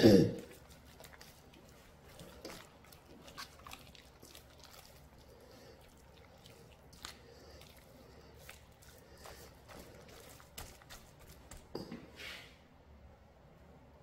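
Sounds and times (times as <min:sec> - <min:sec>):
hands squelching wet paste: 0:00.4 - 0:11.9.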